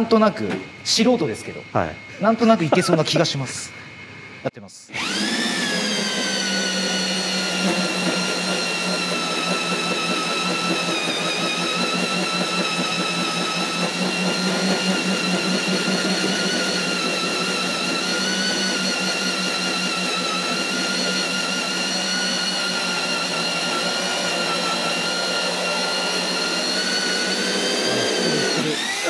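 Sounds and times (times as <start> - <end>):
electric drill motor whine: 0.9 - 29.0.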